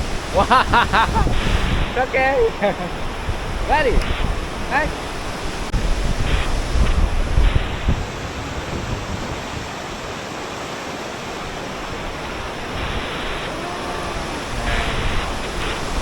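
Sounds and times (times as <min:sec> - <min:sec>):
waterfall rushing: 0:00.0 - 0:16.0
wind buffeting the microphone: 0:00.0 - 0:16.0.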